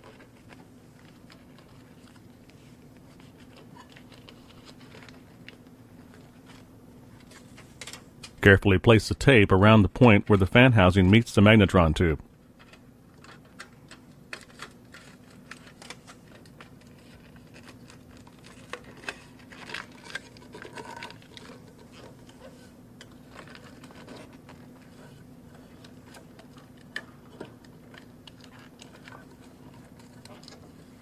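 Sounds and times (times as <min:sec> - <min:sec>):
foil tape crinkling: 0:00.0 - 0:08.0, 0:12.6 - 0:31.0
faint hum: 0:00.0 - 0:31.0.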